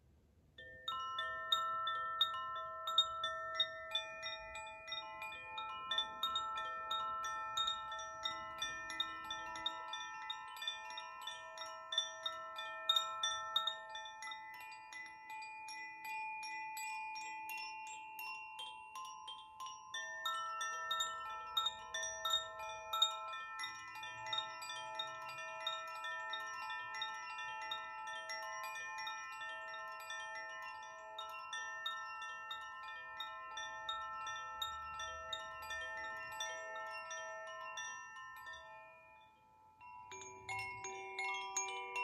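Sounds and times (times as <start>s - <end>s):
lower bamboo chime: 0.0s - 42.0s
bamboo chimes tinkling: 0.6s - 42.0s.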